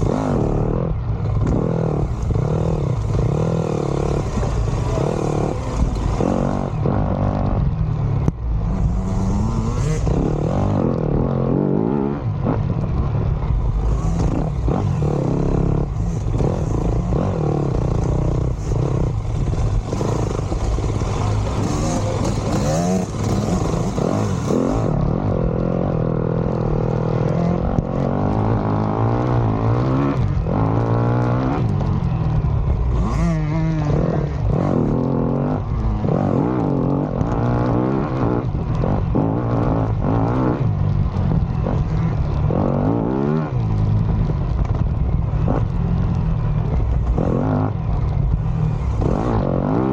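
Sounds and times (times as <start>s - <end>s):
dirt bike engine revving: 0.0s - 7.8s, 8.6s - 12.8s, 13.4s - 46.1s, 48.4s - 49.9s.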